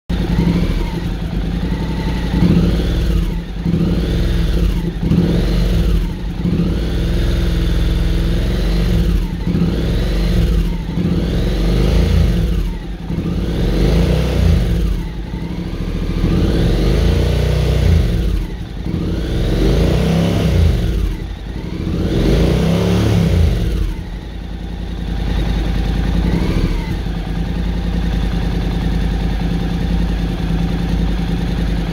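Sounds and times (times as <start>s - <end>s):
motorcycle engine revving: 0.1s - 31.9s.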